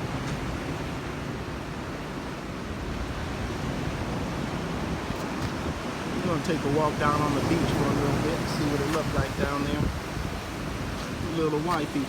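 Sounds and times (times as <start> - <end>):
ocean surf rushing: 0.0 - 12.0
wind rumbling on microphone: 0.0 - 12.0.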